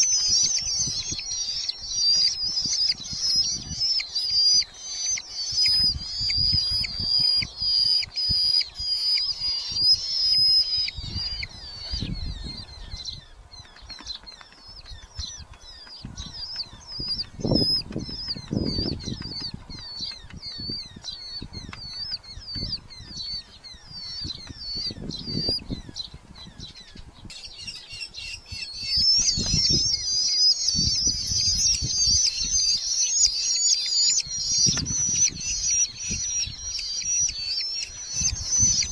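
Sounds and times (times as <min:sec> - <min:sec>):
falcon chicks calling: 0:00.0 - 0:38.9.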